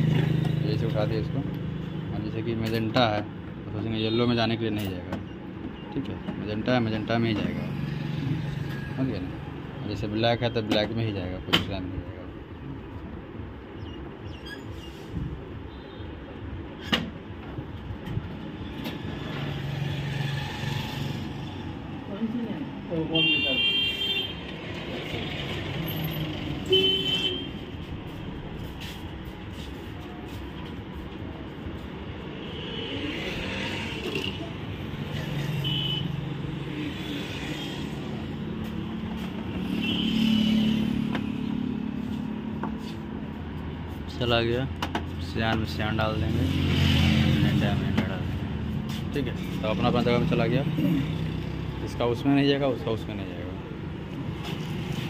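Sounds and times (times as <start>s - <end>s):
road traffic engine drone: 0.0s - 55.0s
steady background noise: 0.0s - 55.0s.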